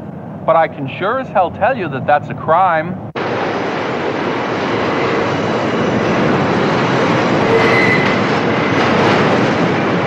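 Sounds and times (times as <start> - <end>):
subway train rumbling in tunnel: 0.0 - 10.0.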